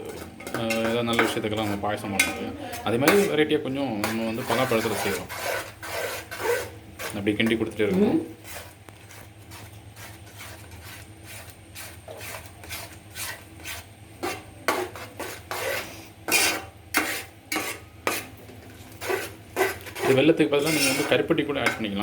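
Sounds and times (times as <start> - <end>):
spoon stirring and scraping pan: 0.0 - 22.0.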